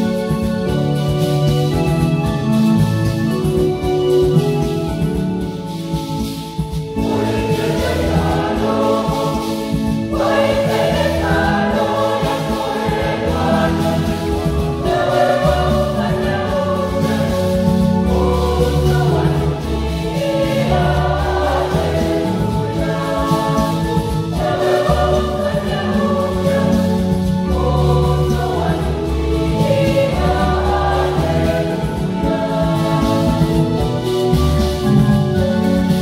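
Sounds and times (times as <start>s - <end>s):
keyboard accompaniment: 0.0s - 36.0s
choir singing a hymn: 5.7s - 36.0s.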